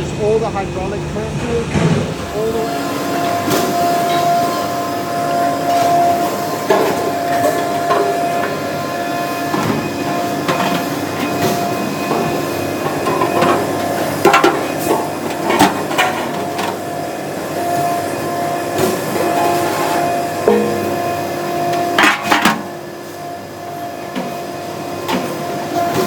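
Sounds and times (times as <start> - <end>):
machinery hum: 0.0 - 26.0.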